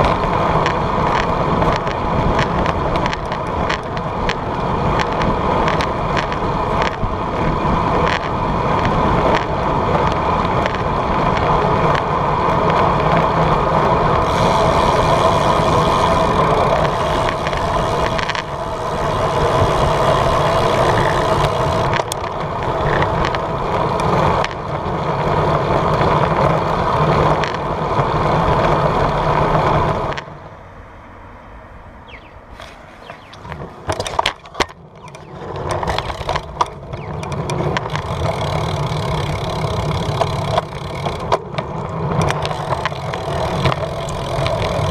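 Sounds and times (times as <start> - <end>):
bike rattles and clicks: 0.0 - 30.5, 32.1 - 44.9
bicycle riding noise: 0.0 - 44.9.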